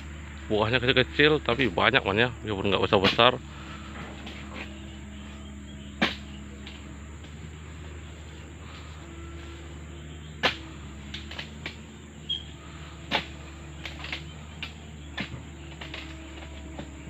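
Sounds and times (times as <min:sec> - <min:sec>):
insects chirring: 0:00.0 - 0:17.0
blade chopping palm stalks: 0:01.1 - 0:02.0, 0:02.6 - 0:17.0.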